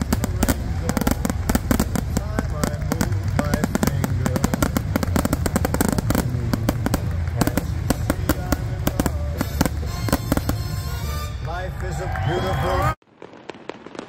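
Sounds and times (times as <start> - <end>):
low rumble: 0.0 - 11.8
fireworks bangs and crackles: 0.0 - 14.0.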